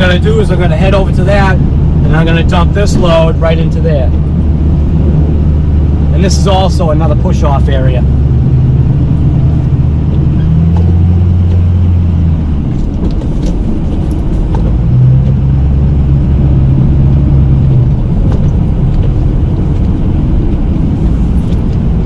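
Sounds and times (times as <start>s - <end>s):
truck engine under load: 0.0s - 22.0s.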